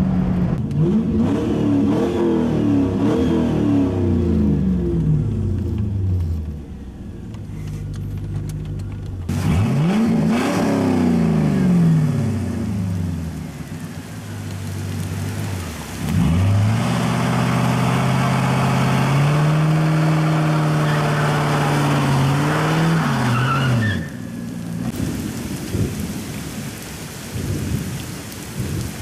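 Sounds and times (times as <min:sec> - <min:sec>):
car engine revving: 0:00.0 - 0:13.6, 0:14.6 - 0:25.0
rain: 0:00.0 - 0:29.0.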